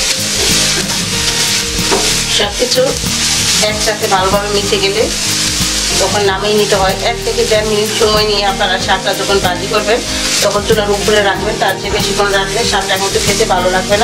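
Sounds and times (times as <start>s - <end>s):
greens sizzling in hot oil: 0.0s - 14.0s.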